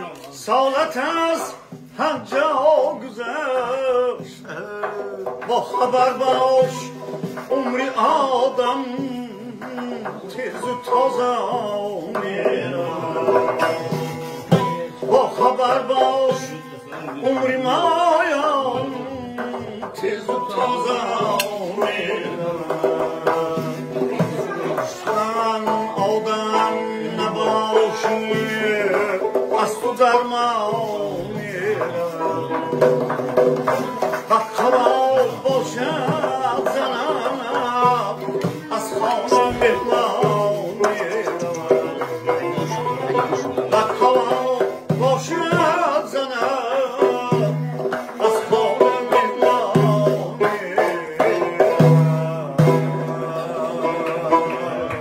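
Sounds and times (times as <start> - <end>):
frame drum beat: 0.0 - 55.0
man singing: 0.0 - 55.0
plucked lute melody: 0.0 - 55.0.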